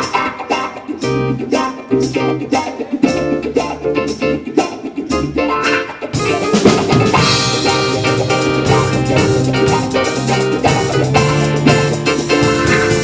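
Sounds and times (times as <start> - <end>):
rock band playing instrumental: 0.0 - 13.0
sparse guitar: 0.0 - 13.0.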